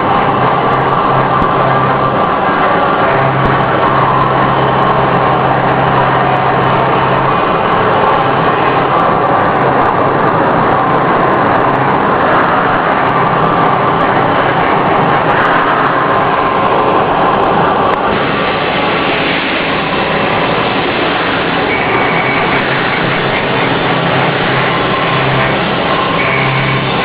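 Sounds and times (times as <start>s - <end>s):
low hum: 0.0s - 27.0s
machine cutting metal: 0.0s - 27.0s.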